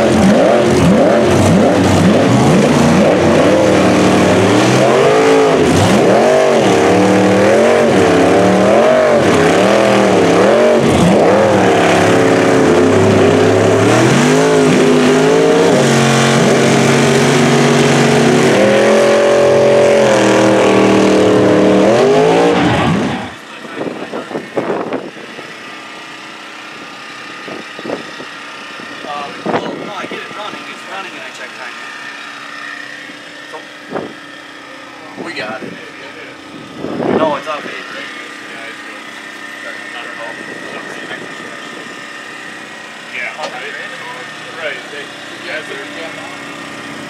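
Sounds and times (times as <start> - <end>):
truck engine revving hard: 0.0 - 47.0.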